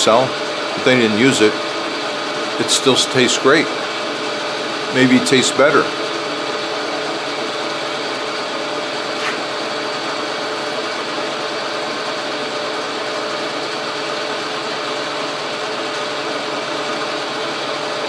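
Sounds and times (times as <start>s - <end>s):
metal lathe running: 0.0s - 18.0s.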